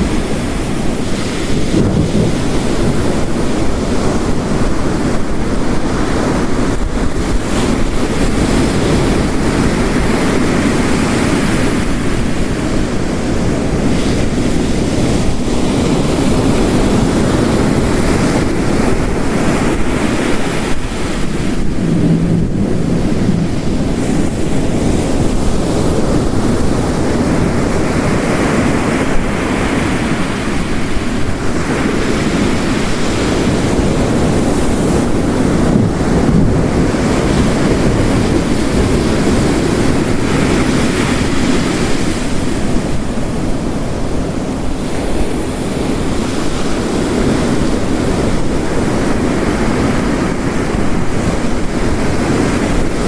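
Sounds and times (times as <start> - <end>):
ocean waves crashing on rocks: 0.0 - 53.0.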